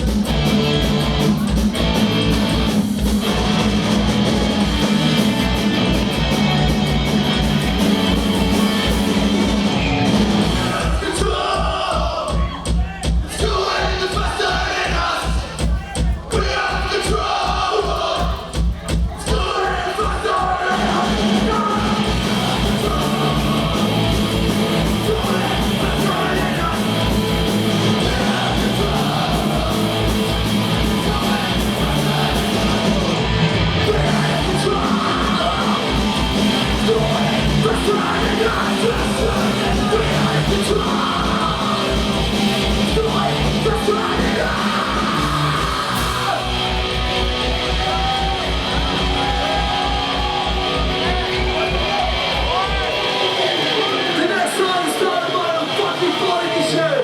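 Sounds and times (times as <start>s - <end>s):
distorted guitars and bass: 0.0s - 11.3s, 20.6s - 57.0s
fast kick-drum beat: 0.0s - 53.1s
shouted vocals: 5.5s - 57.0s.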